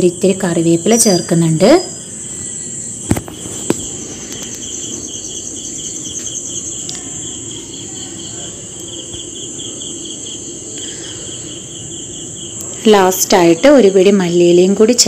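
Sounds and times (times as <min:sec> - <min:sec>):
high-pitched pulsing chirping: 0:00.0 - 0:14.6.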